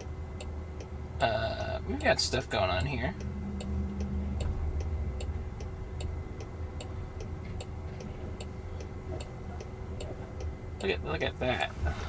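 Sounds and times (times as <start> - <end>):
road and traffic rumble: 0.0 - 12.0
turn signal ticking: 0.0 - 12.0.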